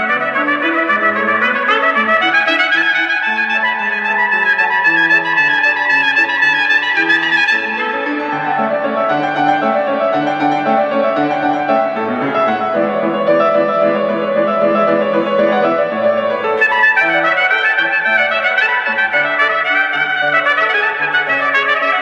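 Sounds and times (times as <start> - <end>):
piano playing: 0.0 - 22.0
trumpet playing: 0.0 - 22.0.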